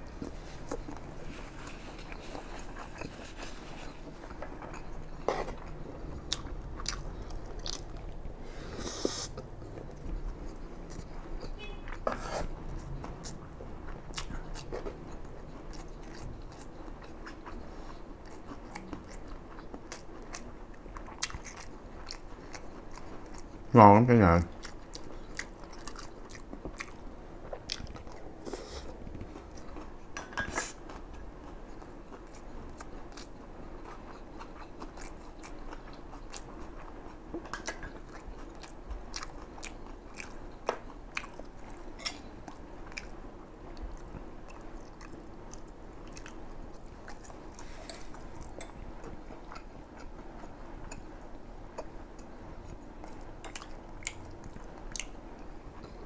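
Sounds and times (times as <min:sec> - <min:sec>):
person chewing rice: 0:00.0 - 0:23.7, 0:24.5 - 0:56.0.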